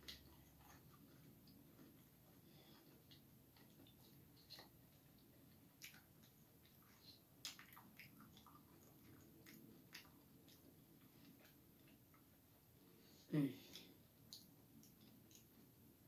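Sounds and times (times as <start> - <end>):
chewing cereal: 0.0 - 16.0.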